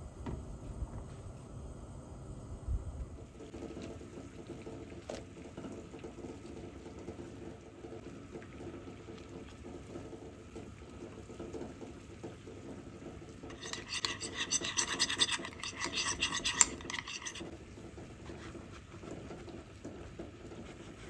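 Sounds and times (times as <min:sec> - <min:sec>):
water bubbling at a boil: 0:03.2 - 0:21.0.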